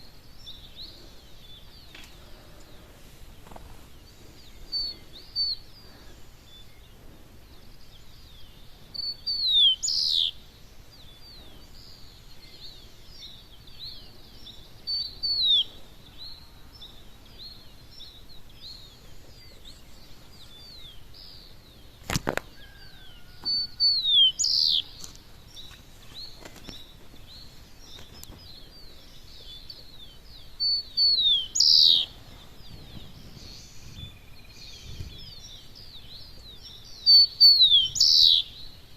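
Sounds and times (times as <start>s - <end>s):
chorus of bird chirps: 0.0s - 38.9s.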